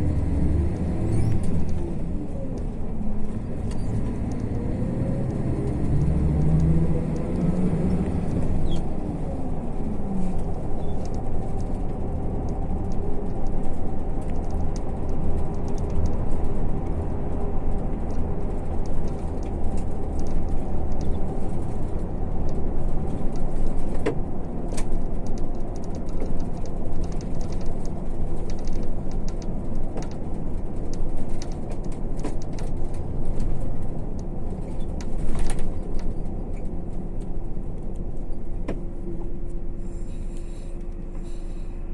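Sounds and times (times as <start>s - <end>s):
bus diesel engine: 0.0s - 41.9s
road noise: 0.0s - 41.9s.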